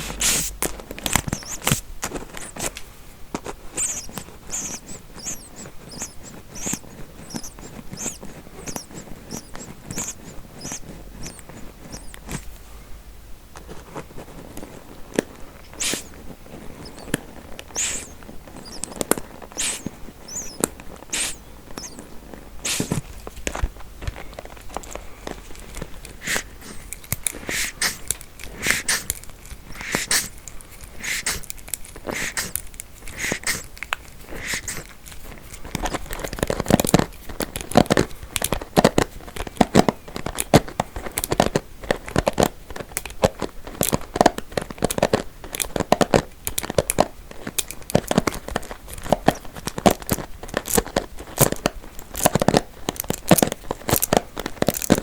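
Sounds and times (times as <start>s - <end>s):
comb teeth scratching: 0.0s - 12.7s, 13.5s - 55.0s.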